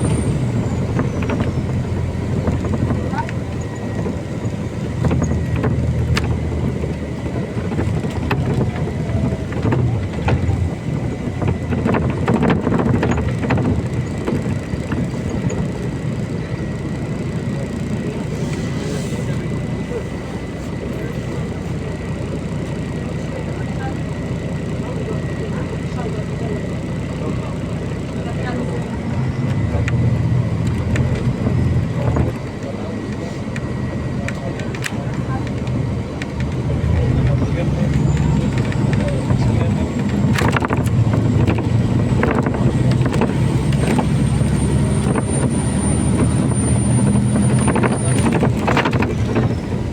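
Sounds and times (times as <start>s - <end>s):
bus body clicks and rattles: 0.0s - 49.9s
bus engine and road rumble: 0.0s - 49.9s.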